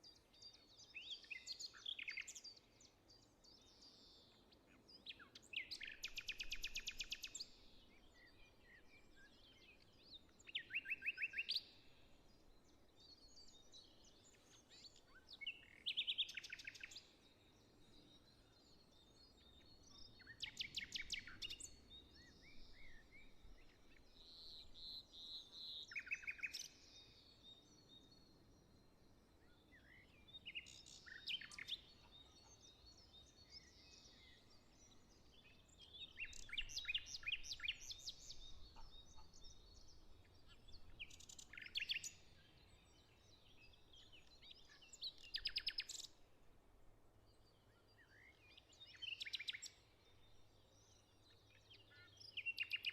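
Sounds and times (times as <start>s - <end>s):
faint background noise: 0.0s - 52.9s
songbirds singing: 0.0s - 52.9s.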